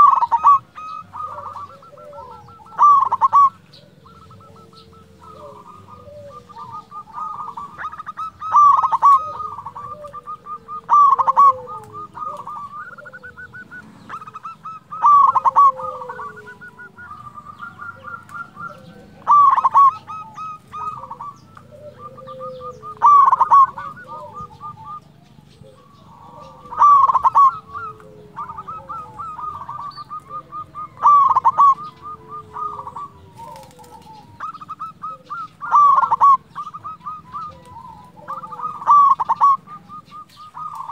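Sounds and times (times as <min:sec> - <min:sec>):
dove cooing song: 0:00.0 - 0:40.9.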